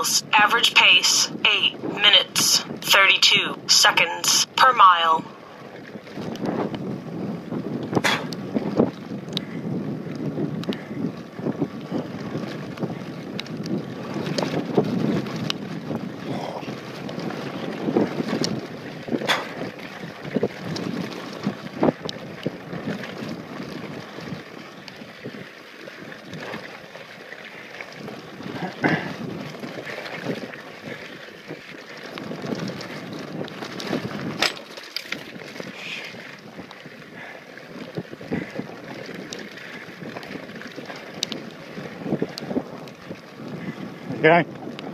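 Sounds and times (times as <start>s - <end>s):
wind buffeting microphone: 0.0s - 4.5s, 5.2s - 44.9s
bike tyres rumbling on dirt: 5.4s - 44.9s
bike clicks and knocks on bumps: 6.0s - 37.1s, 37.7s - 43.9s.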